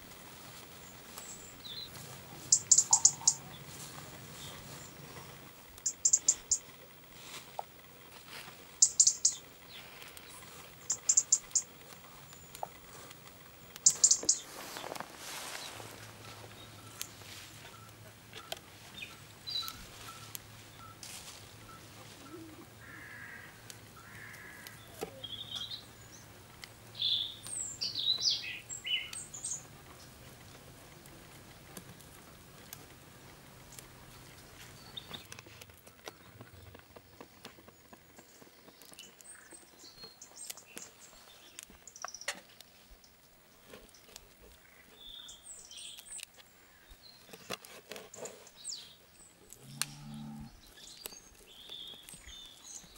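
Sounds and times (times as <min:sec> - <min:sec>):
small birds chirping: 0:00.6 - 0:21.0, 0:21.6 - 0:31.1, 0:33.5 - 0:52.9.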